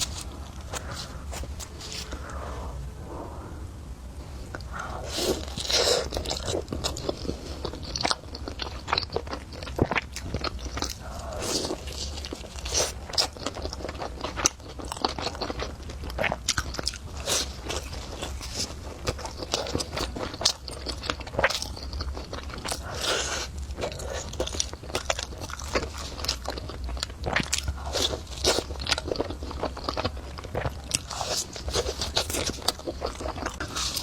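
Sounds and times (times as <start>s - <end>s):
crunchy biting and chewing: 0.0s - 2.9s, 4.5s - 34.0s
steady low hum: 0.0s - 34.0s.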